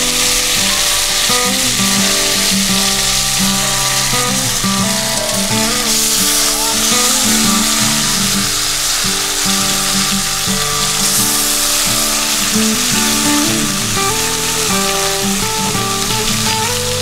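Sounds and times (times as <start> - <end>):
background music: 0.0 - 17.0
pork sizzling in a pot: 0.0 - 17.0.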